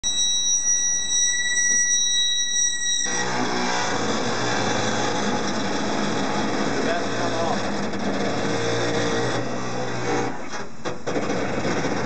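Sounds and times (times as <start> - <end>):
high whine: 0.0 - 10.7.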